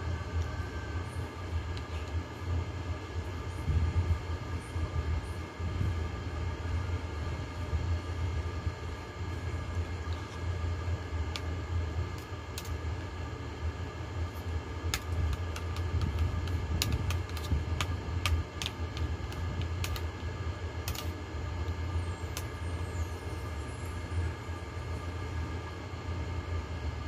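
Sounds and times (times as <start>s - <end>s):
air conditioner hum: 0.0s - 27.0s.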